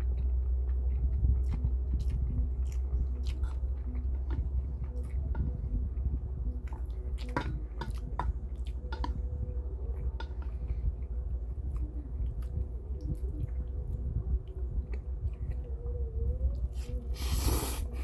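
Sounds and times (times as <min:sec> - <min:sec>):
chewing and wet mouth sounds: 0:00.0 - 0:18.0
steady low hum: 0:00.0 - 0:18.0.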